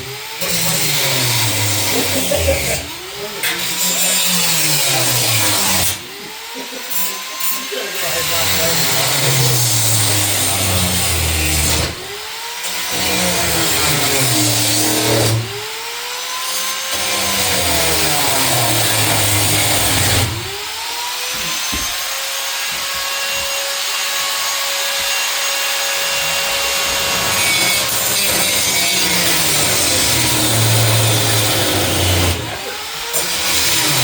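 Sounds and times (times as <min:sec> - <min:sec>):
power cutting tool cutting steel: 0:00.0 - 0:34.0.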